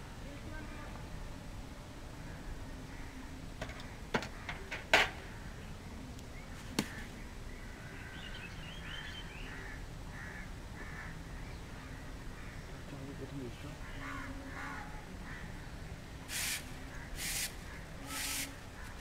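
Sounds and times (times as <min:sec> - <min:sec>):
faint bird calls: 0:02.2 - 0:19.0.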